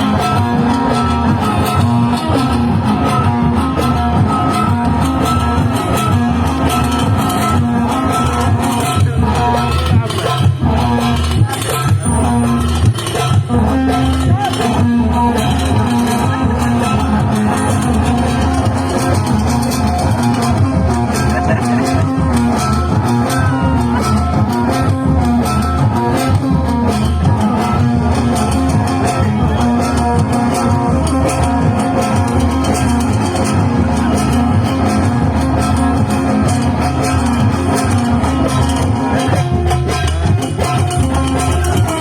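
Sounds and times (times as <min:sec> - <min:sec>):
instrumental band music with guitar: 0:00.0 - 0:42.0.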